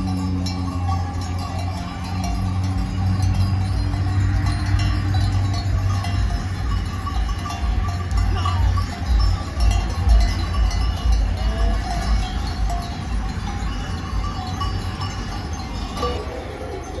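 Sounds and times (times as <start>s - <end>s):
sheep bells clanking: 0.0s - 17.0s
steady low rumble: 0.0s - 17.0s.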